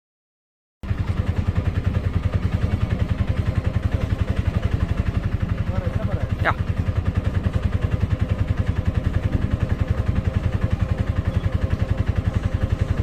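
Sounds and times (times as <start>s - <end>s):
auto-rickshaw engine chugging: 0.8s - 13.0s.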